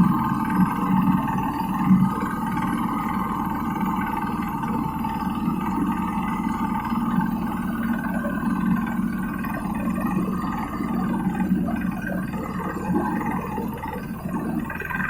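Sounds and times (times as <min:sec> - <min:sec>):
road roller engine running: 0:00.0 - 0:15.0.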